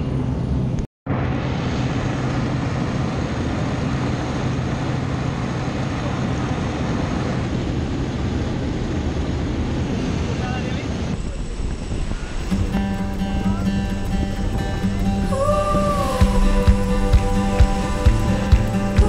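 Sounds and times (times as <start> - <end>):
plane engine and propeller droning: 0.0 - 19.0
wind noise: 0.0 - 19.0.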